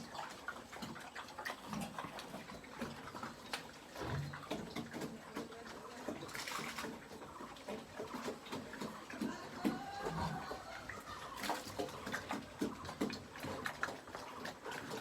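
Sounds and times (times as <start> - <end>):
piglets chewing and smacking: 0.0 - 15.0.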